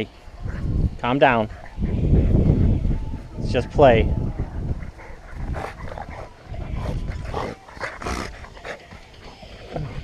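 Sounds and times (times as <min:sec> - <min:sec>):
dogs play-fighting vocalizing: 0:00.4 - 0:03.4, 0:04.2 - 0:10.0.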